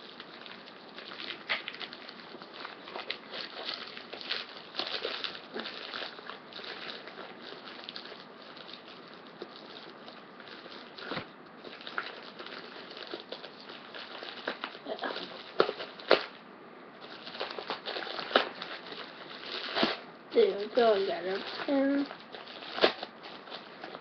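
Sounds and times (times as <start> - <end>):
packaging crinkling and rustling: 0.0 - 16.4, 17.0 - 24.0.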